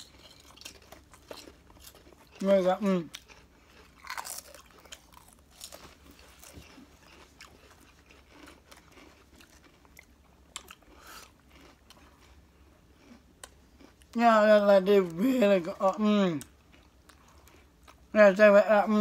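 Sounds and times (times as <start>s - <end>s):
chewing crunchy chips: 0.0s - 18.5s.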